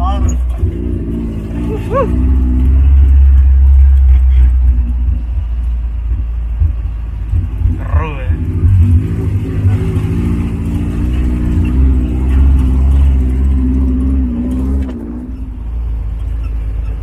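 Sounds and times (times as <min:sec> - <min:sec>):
off-road vehicle engine under load: 0:00.0 - 0:17.0.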